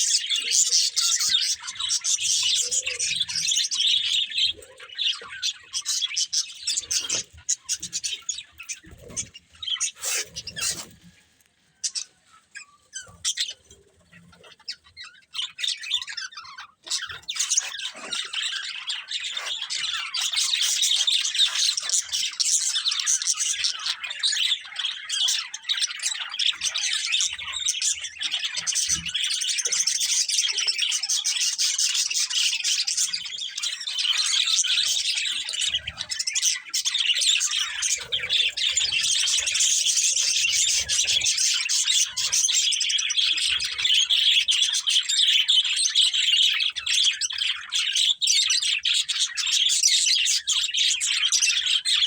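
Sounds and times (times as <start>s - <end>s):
budgerigars chirping: 0.0s - 52.0s.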